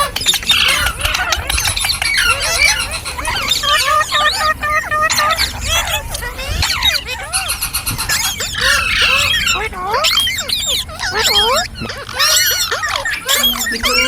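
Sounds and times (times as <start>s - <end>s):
parrot chattering: 0.0s - 14.0s.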